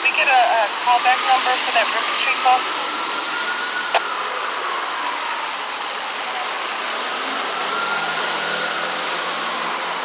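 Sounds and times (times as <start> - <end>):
passing cars: 0.0 - 10.0.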